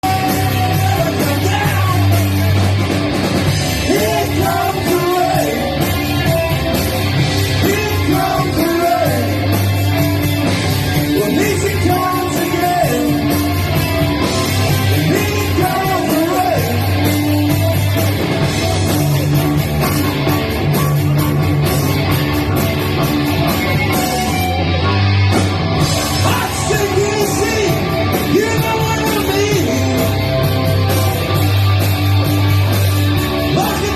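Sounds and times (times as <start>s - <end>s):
shouted rock vocal: 0.0s - 19.6s, 23.6s - 31.8s, 32.8s - 33.9s
loud rock music: 0.0s - 33.9s.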